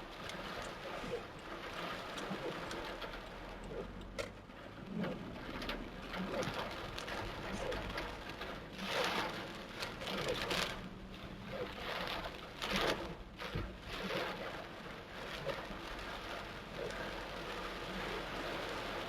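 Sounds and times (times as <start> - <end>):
torrential rain pouring: 0.0 - 19.0.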